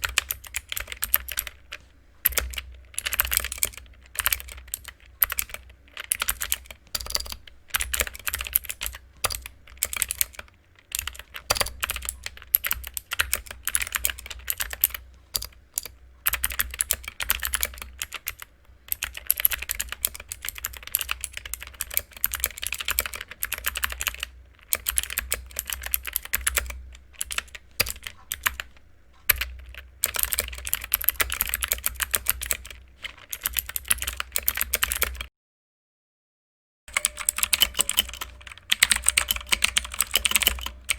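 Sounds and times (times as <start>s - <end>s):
clicky mechanical keyboard typing: 0.0s - 35.3s, 36.9s - 40.9s.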